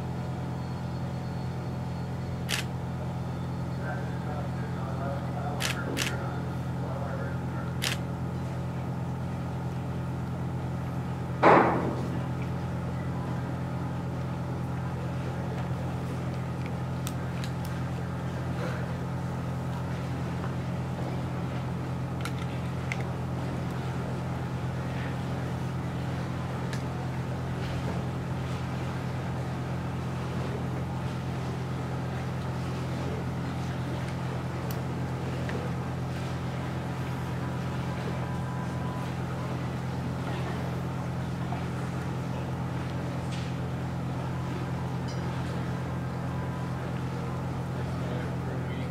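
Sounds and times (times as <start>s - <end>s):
low mechanical hum: 0.0s - 48.9s.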